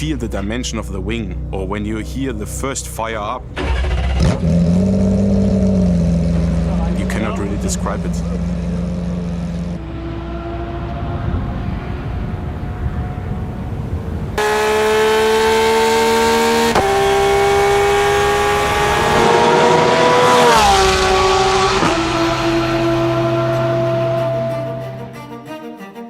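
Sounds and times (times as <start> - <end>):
racing engine revving: 3.4 - 25.2.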